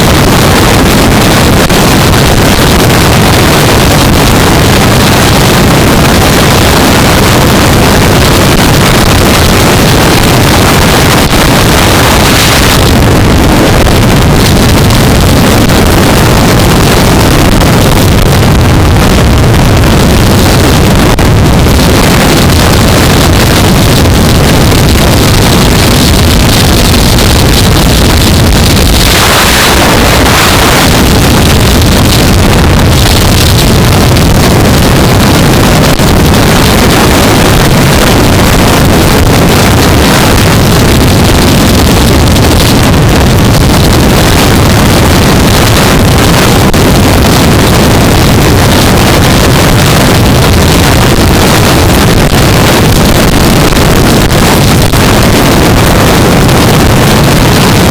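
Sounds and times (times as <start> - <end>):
motorcycle engine drone: 0.0 - 57.9
wind rushing on helmet: 0.0 - 57.9.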